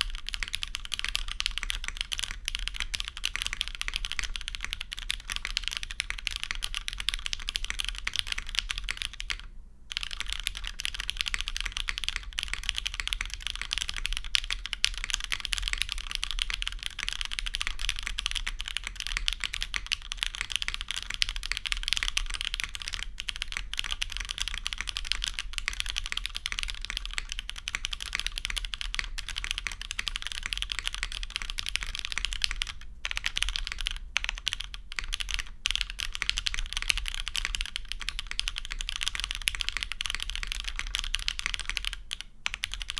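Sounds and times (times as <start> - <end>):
fast mechanical keyboard typing: 0.0 - 42.9.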